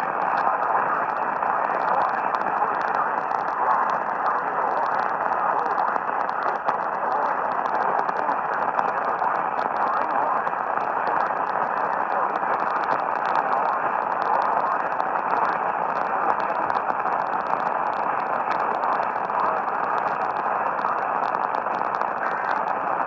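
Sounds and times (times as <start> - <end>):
crackling ticks: 0.0 - 23.0
radio static hiss: 0.0 - 23.0.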